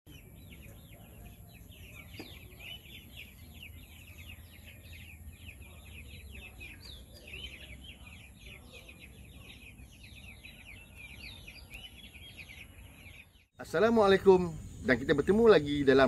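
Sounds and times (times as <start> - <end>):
chicks peeping: 0.1 - 16.0.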